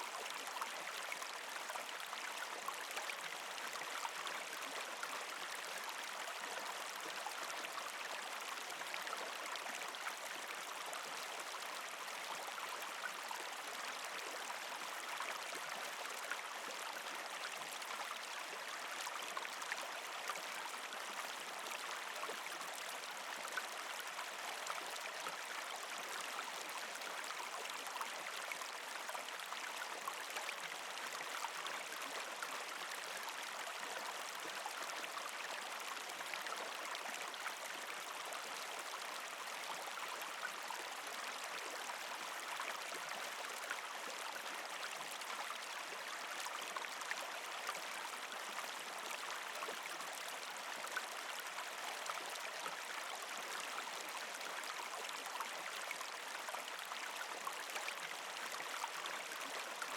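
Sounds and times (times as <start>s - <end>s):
creek water over rocks: 0.0s - 59.9s.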